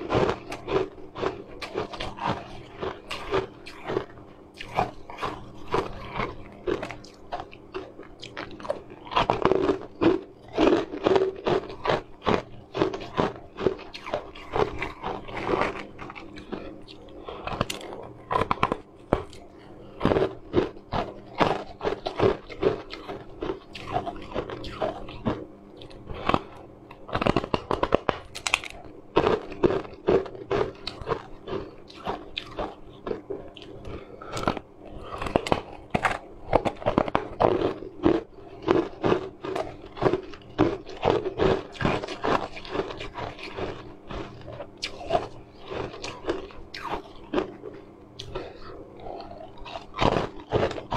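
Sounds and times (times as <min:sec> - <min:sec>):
faint low hum: 0:00.0 - 0:50.9
ice crunching and chewing: 0:00.0 - 0:50.9.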